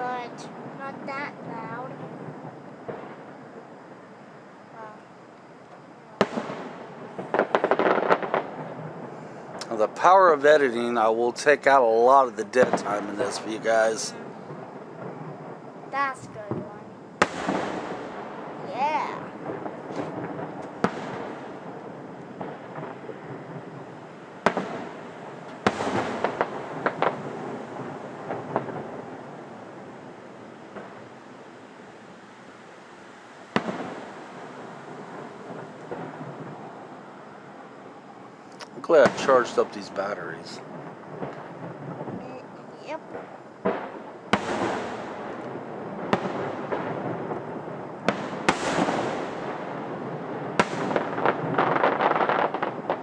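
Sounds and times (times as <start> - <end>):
fireworks banging: 0.0 - 31.2, 33.4 - 53.0
fireworks crackling pops: 0.0 - 53.0.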